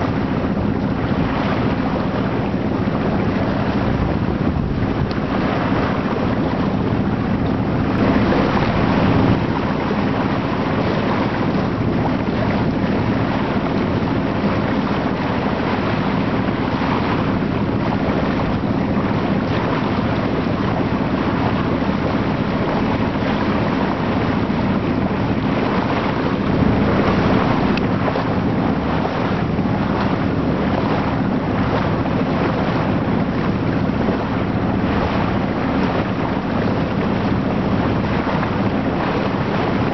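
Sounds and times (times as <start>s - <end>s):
low steady boat hum: 0.0s - 39.9s
water rushing past hull: 0.0s - 39.9s
wind buffeting microphone: 0.0s - 39.9s.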